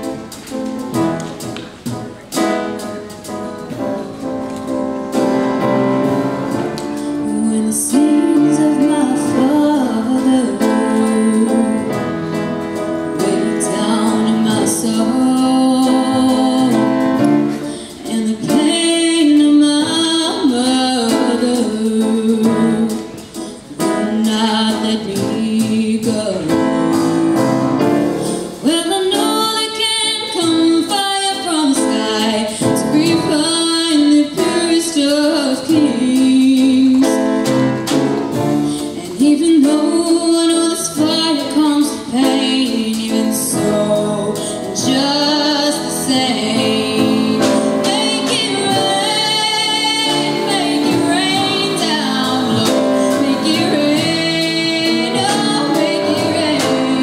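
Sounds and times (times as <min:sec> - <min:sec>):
instrumental accompaniment: 0:00.0 - 0:57.0
girl singing into a microphone: 0:07.1 - 0:12.2, 0:13.1 - 0:27.2, 0:28.6 - 0:37.2, 0:38.8 - 0:57.0.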